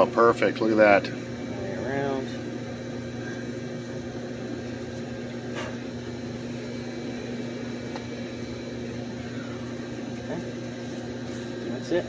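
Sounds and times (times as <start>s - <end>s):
hvac machinery hum: 0.0s - 12.0s.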